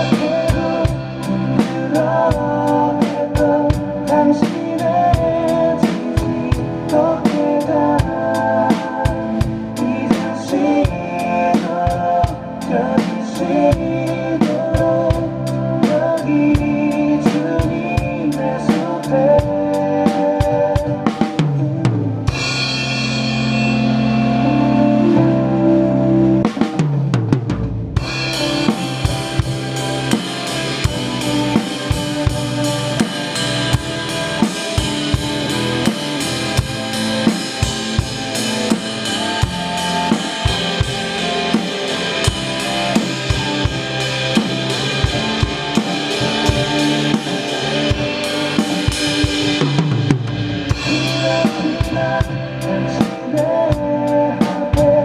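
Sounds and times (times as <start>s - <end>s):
drum kit playing steady beat: 0.0s - 55.0s
worship song backing track: 0.0s - 55.0s.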